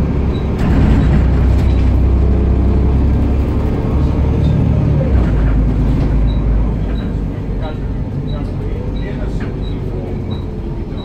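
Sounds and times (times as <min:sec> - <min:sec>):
bus diesel engine drone: 0:00.0 - 0:11.0
road noise: 0:00.0 - 0:11.0.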